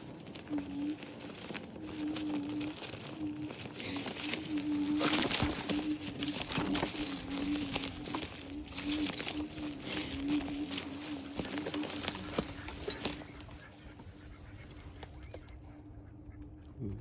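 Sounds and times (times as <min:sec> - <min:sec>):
rustling and scratching: 0:00.0 - 0:15.6
birds cooing: 0:00.0 - 0:17.0.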